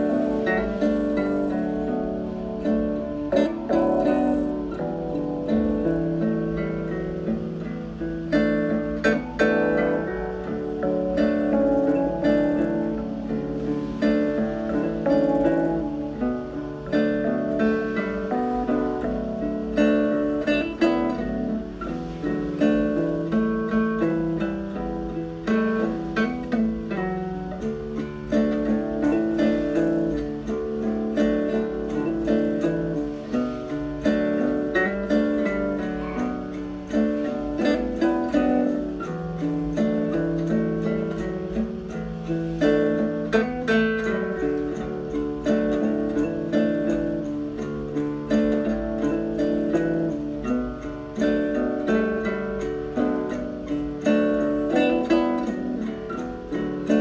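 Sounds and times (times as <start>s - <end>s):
plucked acoustic guitar music: 0.0s - 57.0s.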